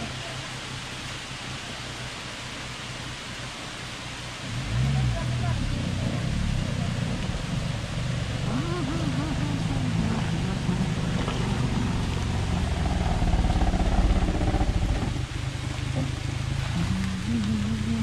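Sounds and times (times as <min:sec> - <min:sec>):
van engine pulling under load: 0:00.0 - 0:18.0.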